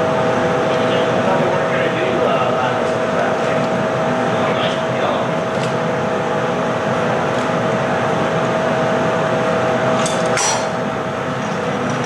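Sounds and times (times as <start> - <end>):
steady hum tone: 0.0 - 12.0
studio equipment noise: 0.0 - 12.0.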